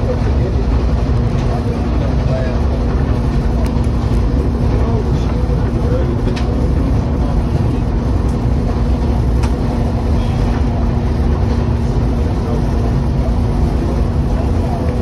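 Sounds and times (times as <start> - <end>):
constant hum: 0.0 - 15.0
train rumbling: 0.0 - 15.0.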